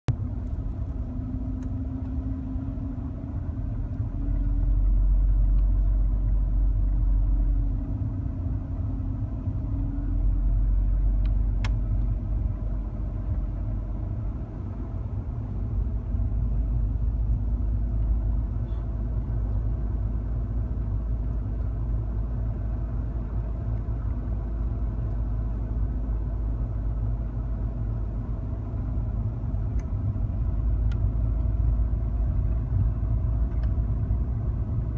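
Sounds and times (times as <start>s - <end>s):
car driving rumble: 0.1s - 34.9s.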